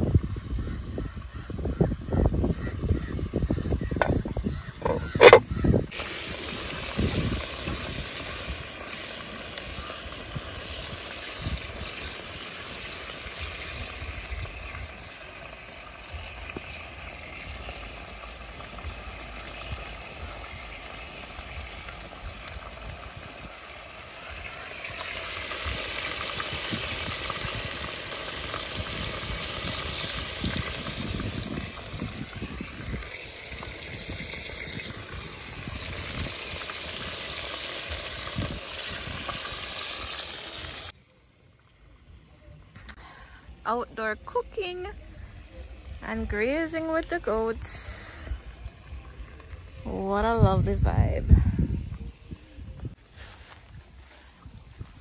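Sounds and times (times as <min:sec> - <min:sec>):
chicken sizzling in oil: 0:00.0 - 0:41.0, 0:51.0 - 0:55.0.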